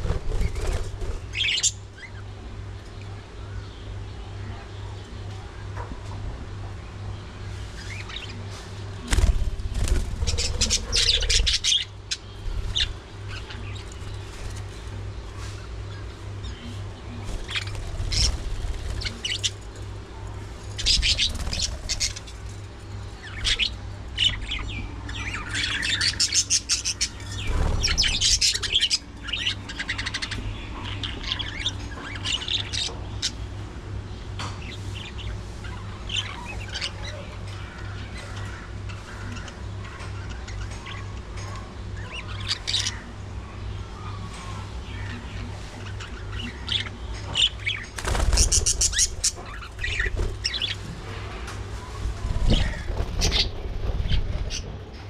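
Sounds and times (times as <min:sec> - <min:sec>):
budgerigars chirping and chattering: 0:00.0 - 0:02.3, 0:07.5 - 0:22.5, 0:23.1 - 0:50.9, 0:51.8 - 0:54.7
steady low hum: 0:00.0 - 0:55.0.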